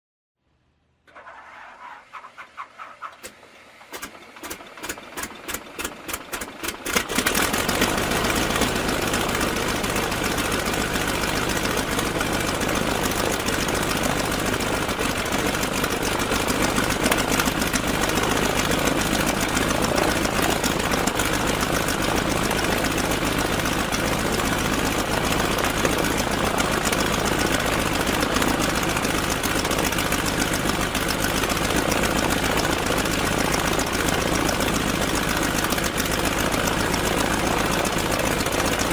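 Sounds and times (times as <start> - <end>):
radial engine cranking and idling: 1.1 - 38.9.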